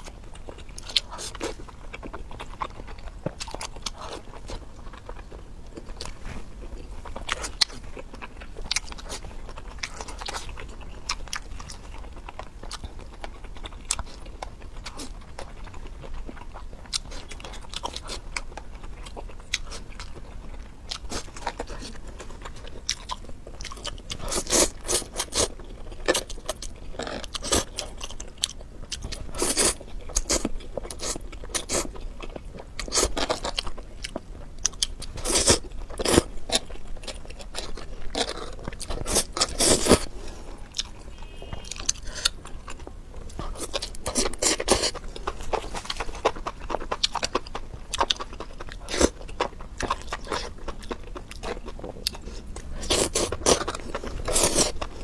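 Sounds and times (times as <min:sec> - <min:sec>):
chewing and biting noodles: 0:00.0 - 0:55.0.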